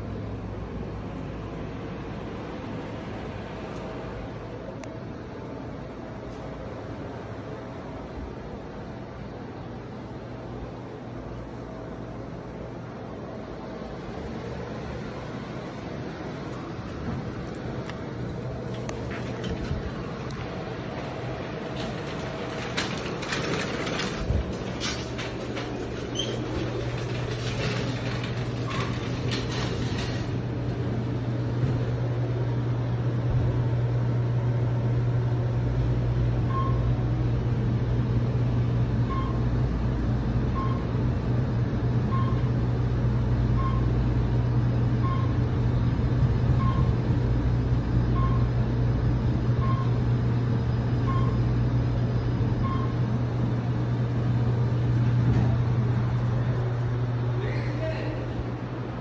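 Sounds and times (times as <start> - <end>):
elevator hum with low rumble: 0.0 - 59.0.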